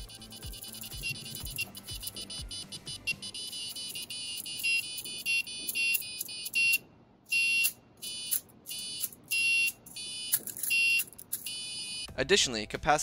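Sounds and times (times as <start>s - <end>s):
piezo buzzer beeping: 0.0s - 12.1s.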